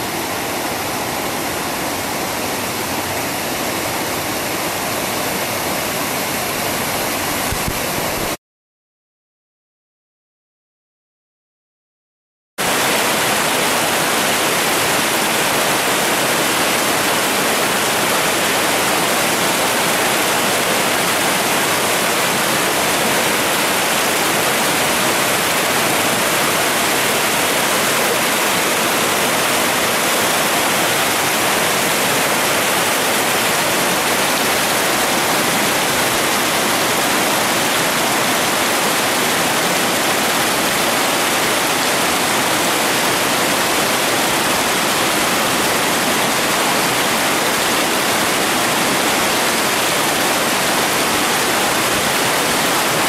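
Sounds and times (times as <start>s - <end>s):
mountain stream rushing over boulders: 0.0s - 8.4s, 12.6s - 53.0s.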